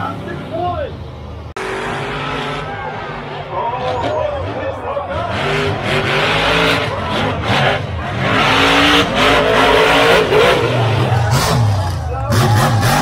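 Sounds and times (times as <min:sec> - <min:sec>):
monster truck engines revving: 0:00.0 - 0:13.0.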